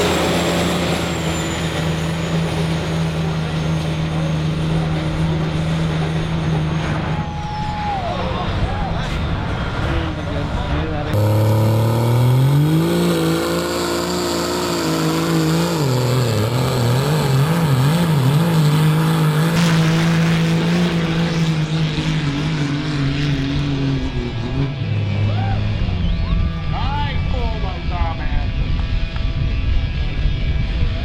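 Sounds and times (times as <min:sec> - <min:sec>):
diesel engine at full throttle: 0:00.0 - 0:31.0.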